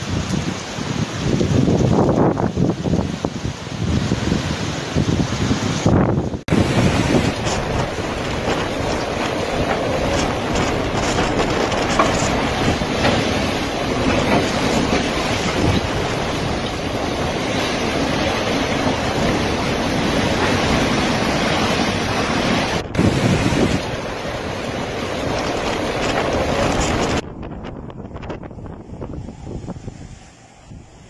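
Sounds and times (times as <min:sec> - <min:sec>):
storm wind buffeting microphone: 0:00.0 - 0:31.0.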